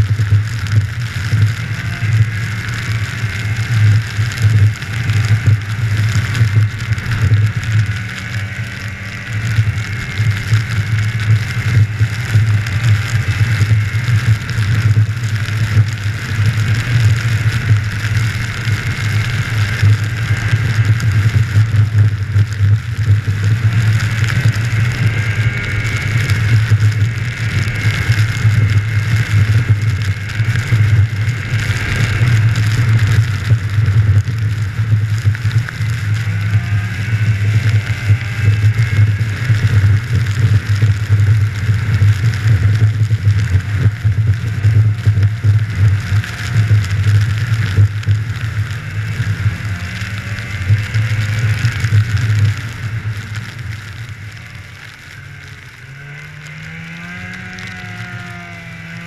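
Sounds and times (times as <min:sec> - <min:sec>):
engine whine: 0:00.0 - 0:59.0
snowmobile engine droning: 0:00.0 - 0:59.0.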